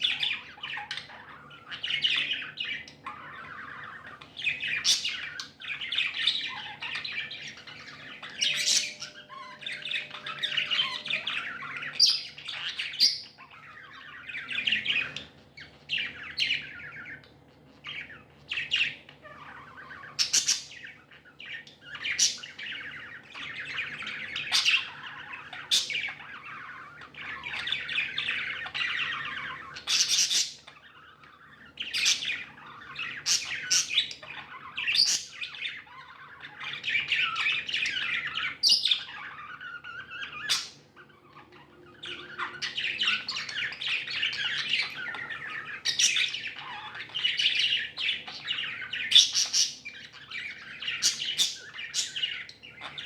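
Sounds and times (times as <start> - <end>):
budgerigars chattering and warbling: 0.0 - 53.0.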